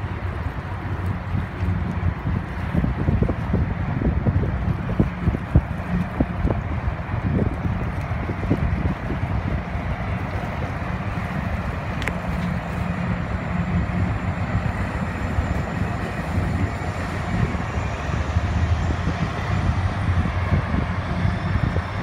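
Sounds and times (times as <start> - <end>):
boat diesel engine rumble: 0.0 - 22.0
wind buffeting microphone: 0.0 - 22.0.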